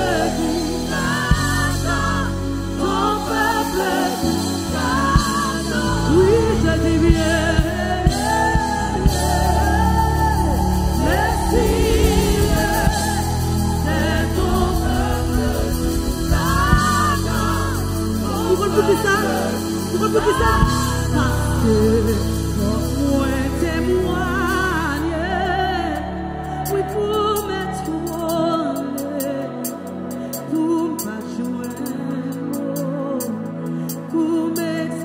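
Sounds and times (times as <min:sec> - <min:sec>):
instrumental backing with bass: 0:00.0 - 0:35.0
worship song singing: 0:00.0 - 0:35.0.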